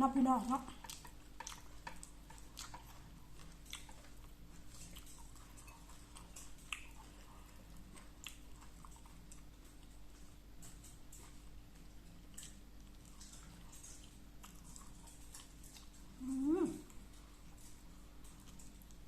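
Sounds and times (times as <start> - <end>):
person chewing food: 0.7 - 19.0.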